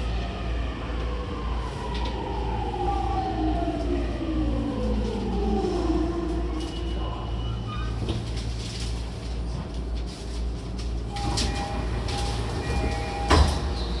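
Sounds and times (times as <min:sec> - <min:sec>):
subway car rumble: 0:00.0 - 0:14.0.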